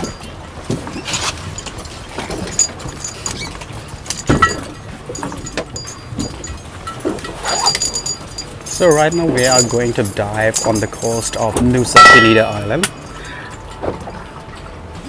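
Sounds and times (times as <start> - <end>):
metallic clinks of scuba gear: 0.0 - 14.0
boat engine hum: 0.0 - 15.0.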